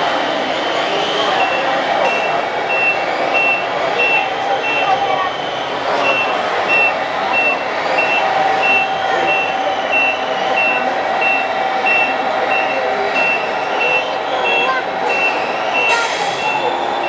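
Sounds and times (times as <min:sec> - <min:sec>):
exhibition hall crowd noise: 0:00.0 - 0:17.0
reversing alarm beeps: 0:00.8 - 0:17.0.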